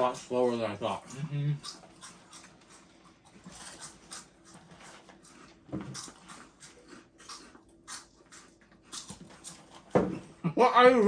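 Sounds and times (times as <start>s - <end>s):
crunching and chewing: 0.0s - 10.4s.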